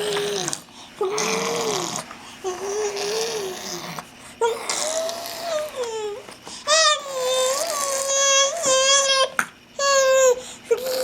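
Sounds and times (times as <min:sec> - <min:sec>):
baby making drawn-out vocal sounds: 0:00.0 - 0:11.0.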